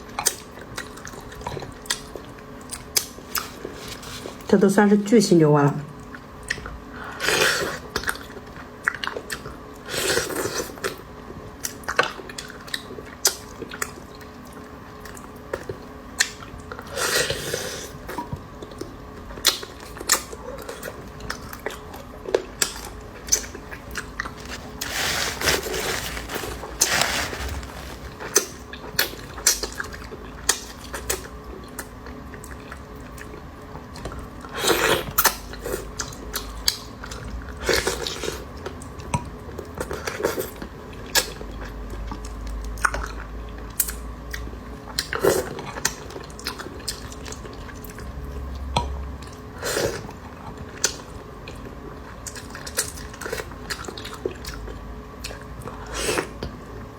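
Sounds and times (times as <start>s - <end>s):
chewing and biting meatballs: 0.0s - 4.5s, 5.9s - 56.9s.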